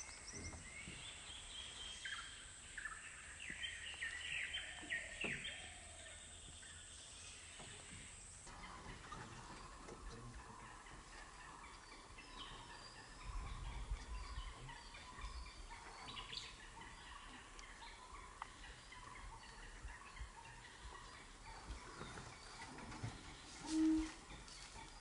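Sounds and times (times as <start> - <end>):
bird calls and chatter: 0.0 - 25.0.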